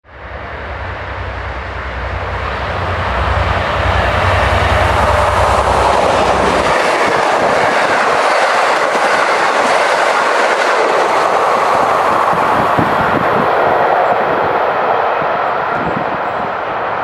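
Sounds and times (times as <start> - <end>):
diesel locomotive hum: 0.0 - 17.0
train wheels rolling on rails: 0.3 - 17.0.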